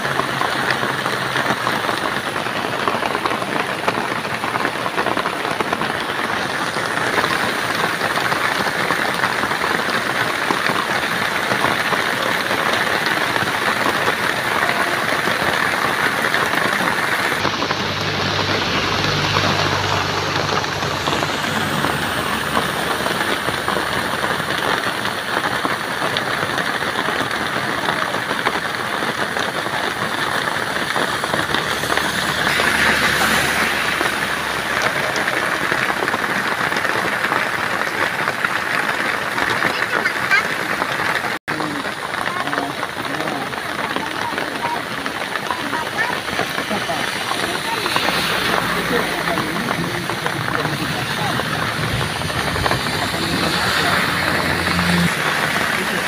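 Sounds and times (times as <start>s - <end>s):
vehicle engine hum: 0.0s - 38.7s, 41.5s - 56.0s
heavy rain on road: 0.0s - 56.0s.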